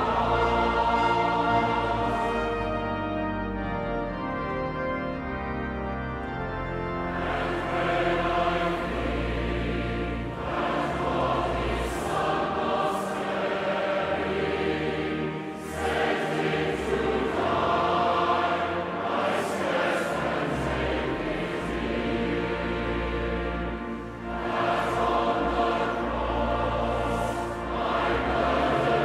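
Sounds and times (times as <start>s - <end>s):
many voices singing a hymn: 0.0s - 3.9s, 6.6s - 29.0s
organ accompaniment: 0.0s - 29.0s.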